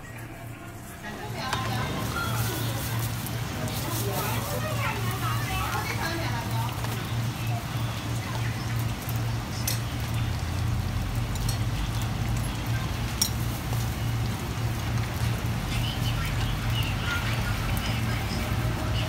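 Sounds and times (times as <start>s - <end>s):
street stall background hum: 0.0s - 19.0s.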